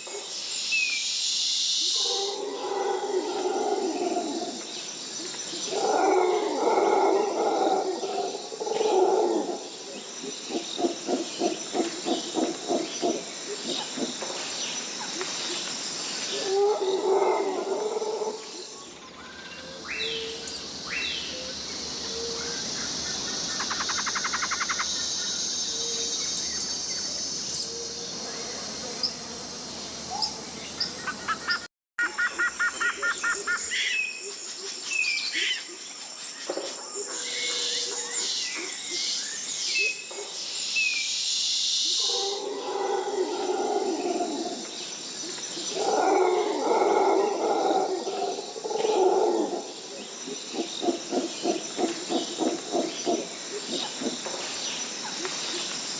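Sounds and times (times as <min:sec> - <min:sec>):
insects chorus: 0:00.0 - 0:55.9.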